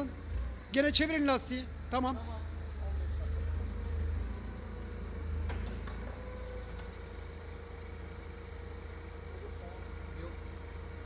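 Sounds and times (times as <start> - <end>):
forklift engine idling: 0.0 - 11.0.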